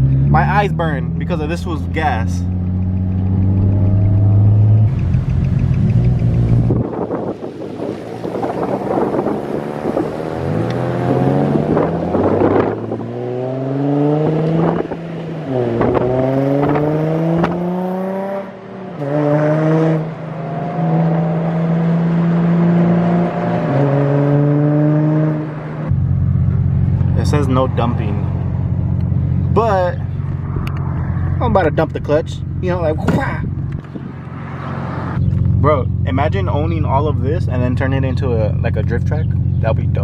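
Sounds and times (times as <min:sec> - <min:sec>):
car engine accelerating through gears: 0:01.1 - 0:37.6.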